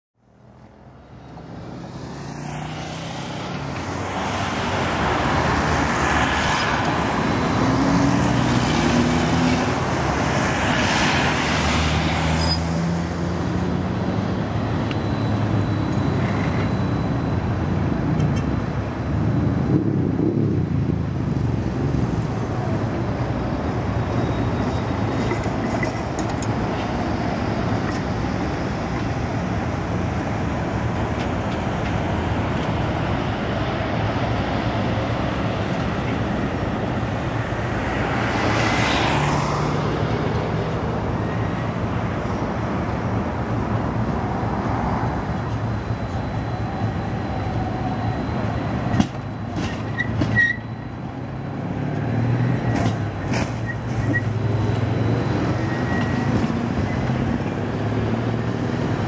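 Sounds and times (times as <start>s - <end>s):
road traffic noise: 0.2s - 59.0s
tram rolling on track: 0.4s - 59.0s.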